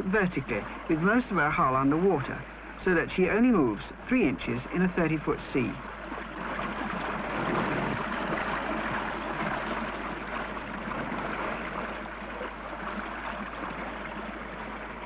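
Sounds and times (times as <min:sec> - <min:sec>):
sea water rushing and washing: 0:00.0 - 0:15.0.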